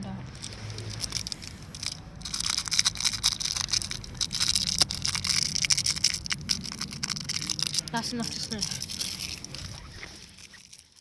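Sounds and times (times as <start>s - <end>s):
plastic bag crackling and rustling: 0.3s - 11.0s.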